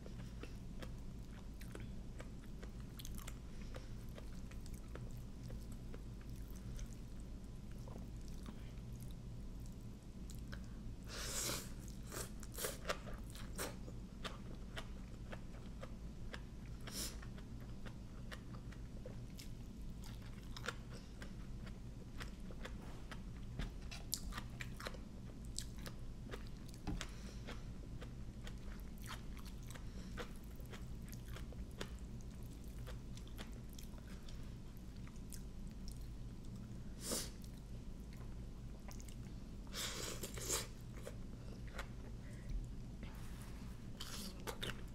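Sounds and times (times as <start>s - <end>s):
person chewing crunchy food: 0.0s - 10.8s, 11.6s - 36.6s, 43.8s - 44.9s.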